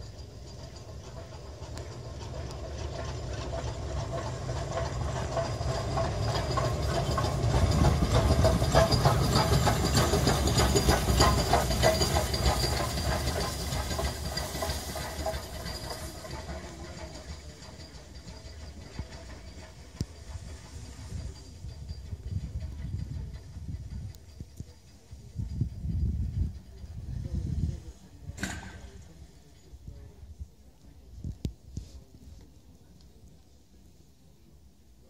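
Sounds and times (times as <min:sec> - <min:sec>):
steam hissing: 0:00.0 - 0:29.3
wheels clanking: 0:00.0 - 0:29.6
locomotive low rumble: 0:00.0 - 0:35.0.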